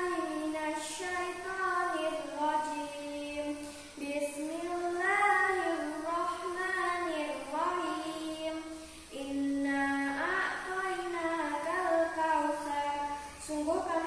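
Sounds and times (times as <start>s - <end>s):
girl singing: 0.0s - 14.0s.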